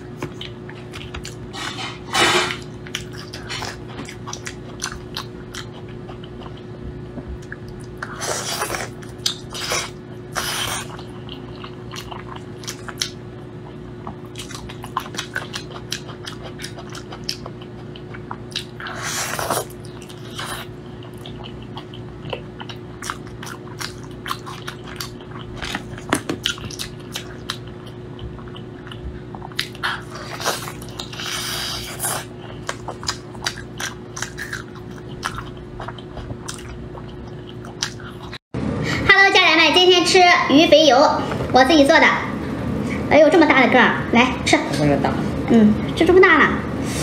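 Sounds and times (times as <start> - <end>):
person chewing meat: 0.0 - 2.0, 2.6 - 38.4
steady low hum: 0.0 - 47.0.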